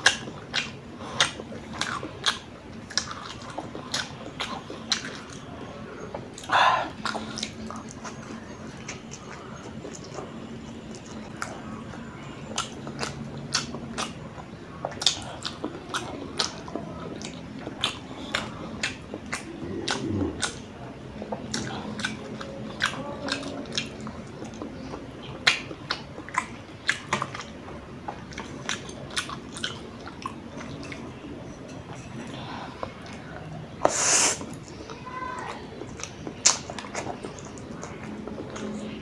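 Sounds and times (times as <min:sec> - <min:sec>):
chewing and wet mouth smacking: 0:00.0 - 0:39.0.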